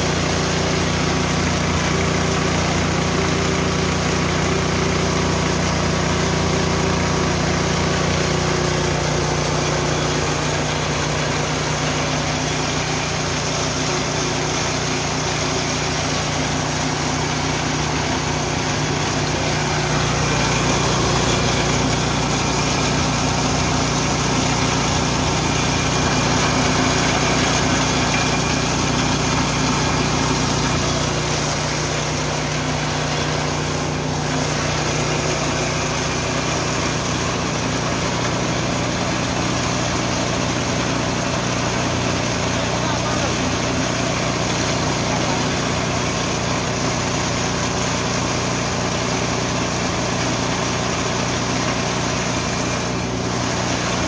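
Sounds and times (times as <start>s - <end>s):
milling machine running: 0.0s - 54.0s.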